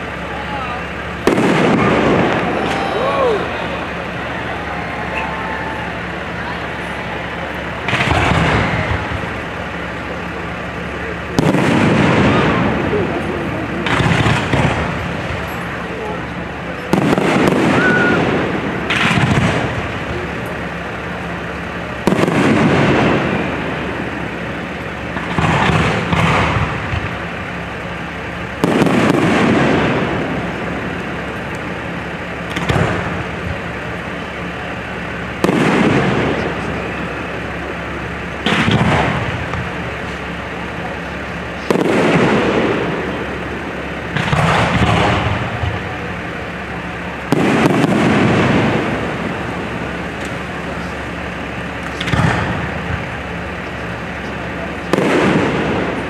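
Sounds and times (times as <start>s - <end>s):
echoing rumble: 0.0s - 56.0s
fireworks shells bursting: 0.9s - 56.0s.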